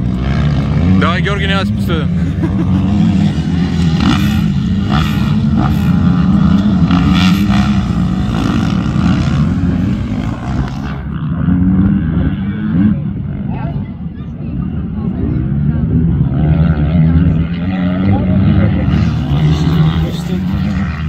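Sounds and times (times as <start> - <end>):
motocross bikes revving: 0.0 - 21.0.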